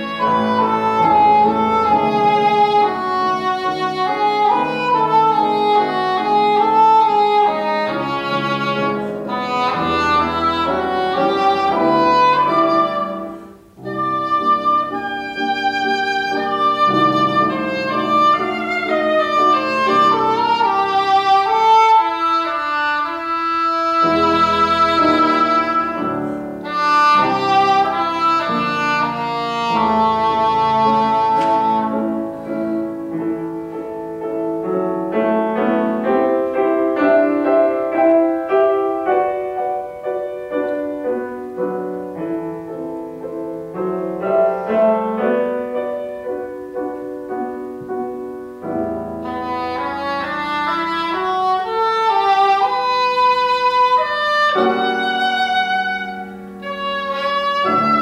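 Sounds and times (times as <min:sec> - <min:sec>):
english horn melody: 0:00.0 - 0:47.1, 0:48.6 - 0:58.0
piano accompaniment: 0:00.0 - 0:58.0.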